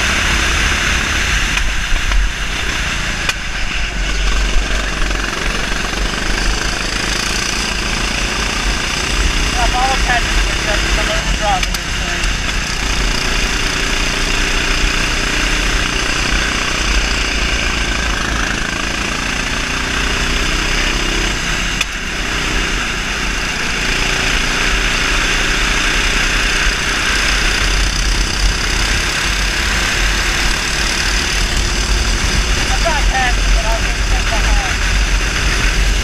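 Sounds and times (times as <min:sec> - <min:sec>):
kart engine running at speed: 0:00.0 - 0:36.0.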